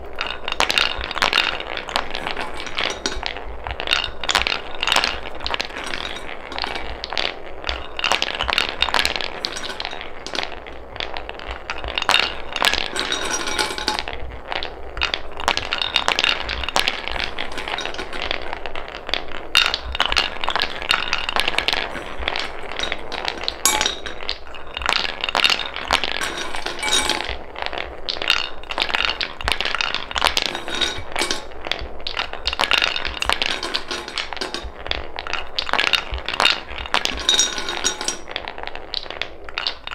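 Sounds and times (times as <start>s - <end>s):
wooden balls clacking: 0.0s - 39.9s
wooden balls rolling on track: 0.0s - 39.9s.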